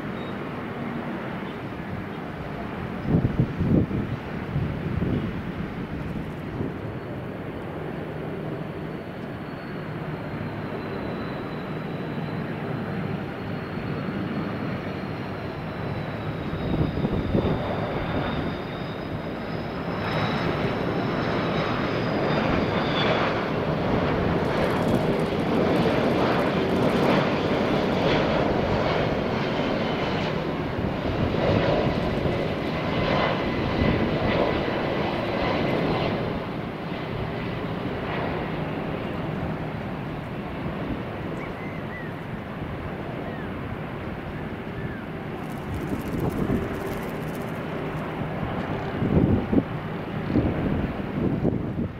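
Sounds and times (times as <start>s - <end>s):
jet airliner rumble and whine: 0.0s - 51.9s.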